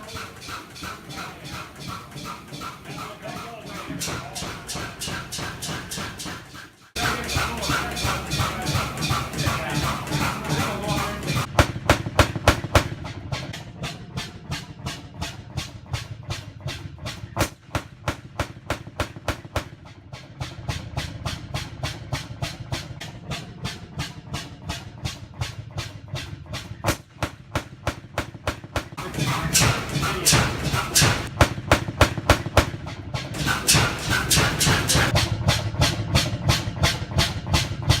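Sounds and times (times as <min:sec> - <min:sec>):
engine running with rapid beat: 0:00.0 - 0:38.0.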